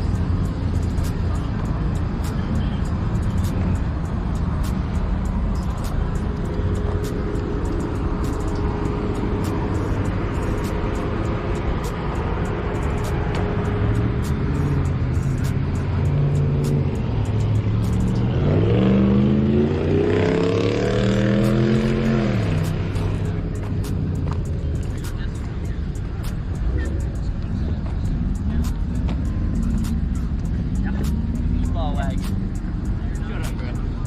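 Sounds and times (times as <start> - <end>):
car engine rumbling and revving: 0.0 - 34.0.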